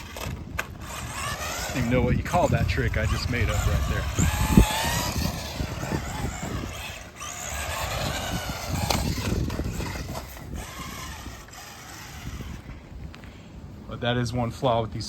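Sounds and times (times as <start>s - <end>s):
toy car motor whining: 0.0s - 12.7s.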